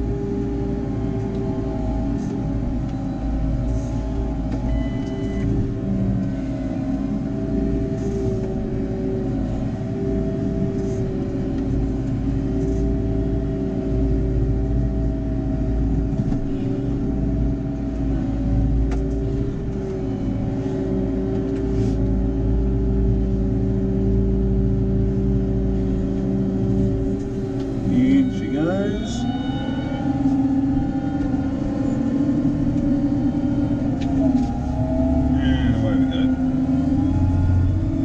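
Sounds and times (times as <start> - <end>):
tractor diesel engine droning: 0.0 - 38.0.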